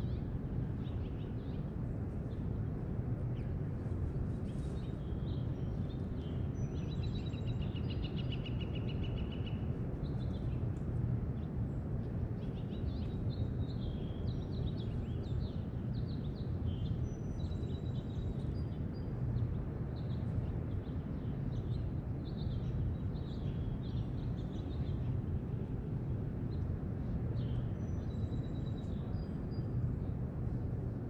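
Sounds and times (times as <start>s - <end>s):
low background rumble: 0.0s - 31.0s.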